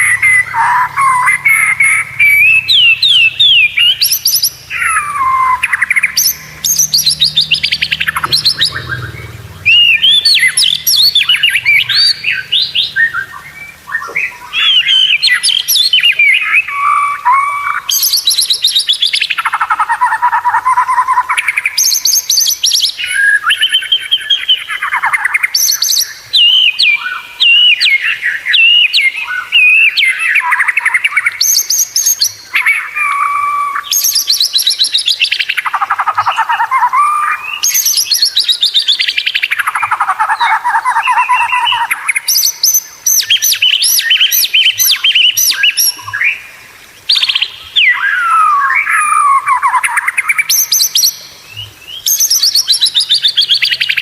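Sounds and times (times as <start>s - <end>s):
songbird singing trilled phrases: 0.0s - 54.0s.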